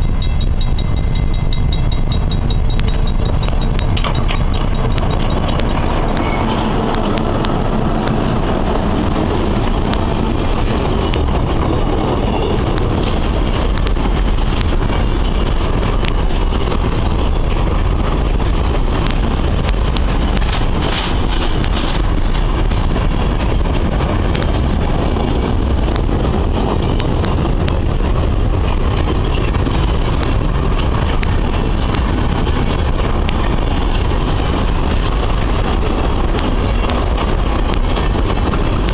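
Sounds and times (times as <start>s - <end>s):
freight train rumbling past: 0.0s - 38.9s
train wheels clicking and clanking: 0.0s - 38.9s.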